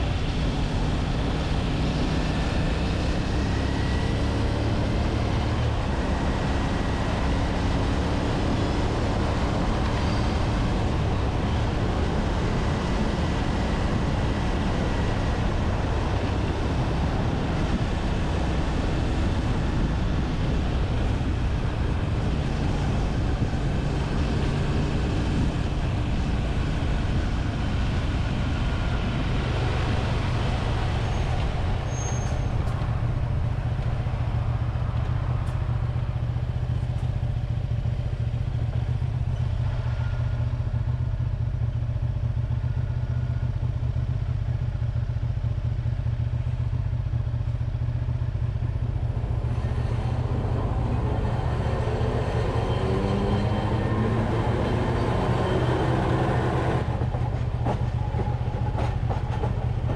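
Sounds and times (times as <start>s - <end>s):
motorcycle engine running: 0.0s - 50.3s.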